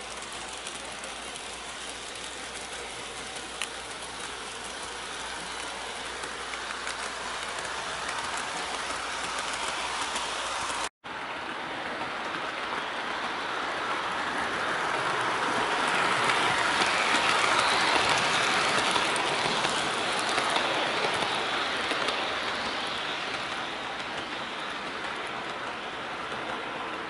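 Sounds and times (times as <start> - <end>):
model train motor whirring: 0.0 - 10.9, 13.8 - 27.0
train wheels on rails: 0.0 - 27.0.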